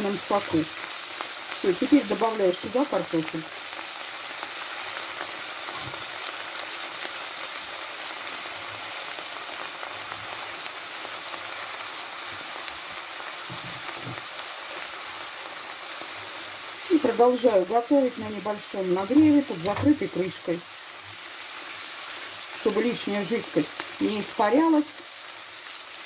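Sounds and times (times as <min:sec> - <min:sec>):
vegetables sizzling in a frying pan: 0:00.0 - 0:26.0.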